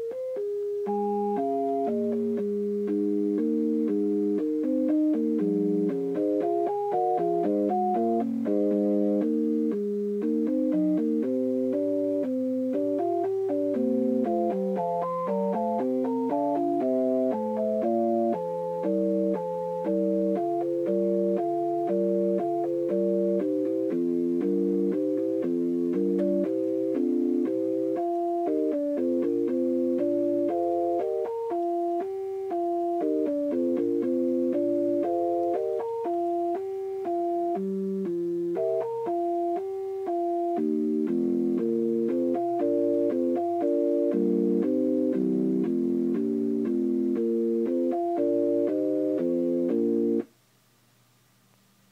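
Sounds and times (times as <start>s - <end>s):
organ-like electronic tones: 0.0s - 50.3s.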